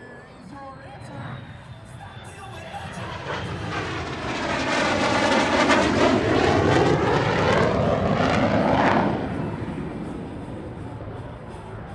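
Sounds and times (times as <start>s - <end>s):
jet engine roar passing by: 1.0s - 11.9s.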